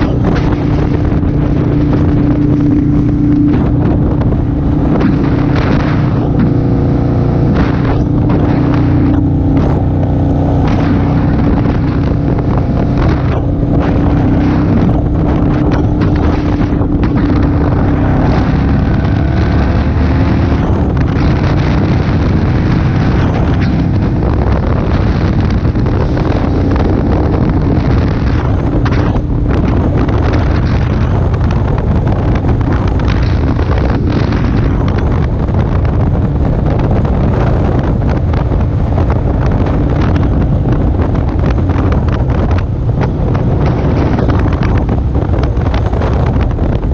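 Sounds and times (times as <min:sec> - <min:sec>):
motorcycle engine running: 0:00.0 - 0:46.9
wind on microphone: 0:00.0 - 0:46.9.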